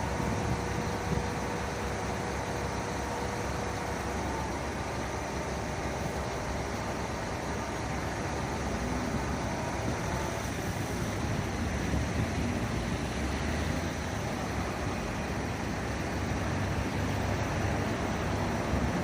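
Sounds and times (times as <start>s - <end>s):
engine rumble: 0.0s - 19.0s.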